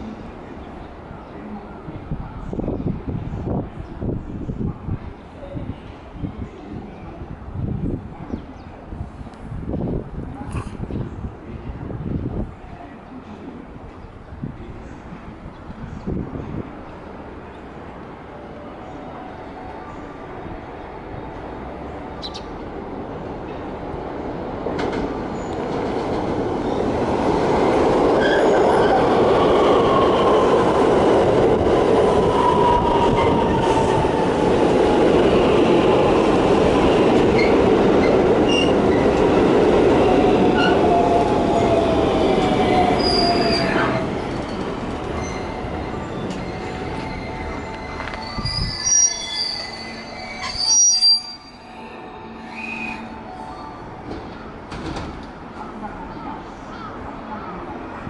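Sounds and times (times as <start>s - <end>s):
electric train rumbling past: 7.2s - 58.0s.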